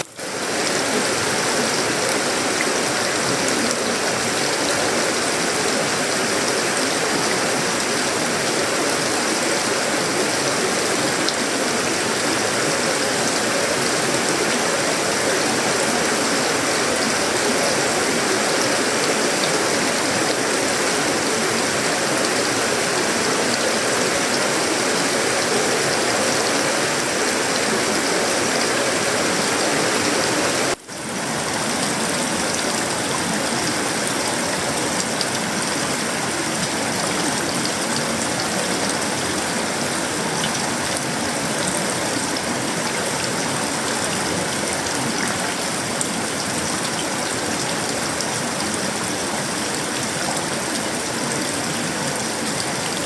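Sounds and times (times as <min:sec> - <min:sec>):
heavy rain on metal roof: 0:00.0 - 0:53.0.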